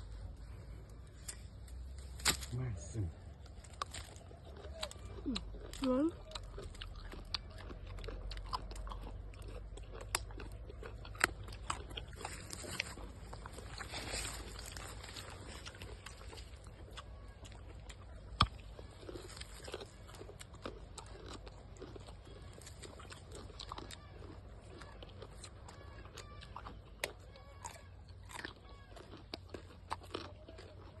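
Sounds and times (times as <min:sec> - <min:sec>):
crunching and chewing food: 0:00.0 - 0:31.0.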